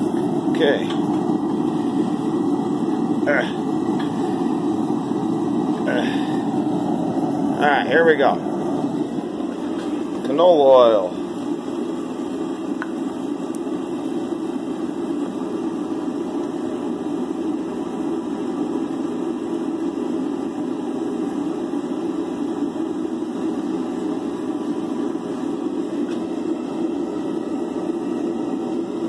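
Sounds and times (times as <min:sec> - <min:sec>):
gas burner roaring: 0:00.0 - 0:29.0.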